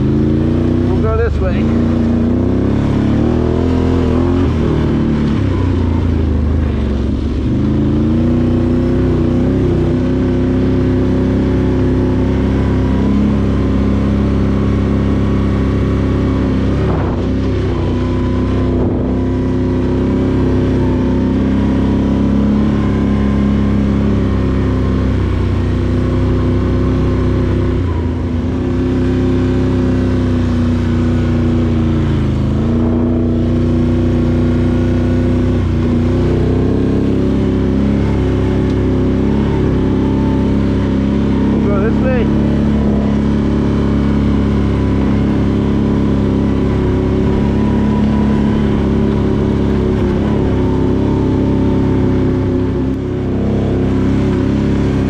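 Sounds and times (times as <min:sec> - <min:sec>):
atv engine under load: 0:00.0 - 0:55.0.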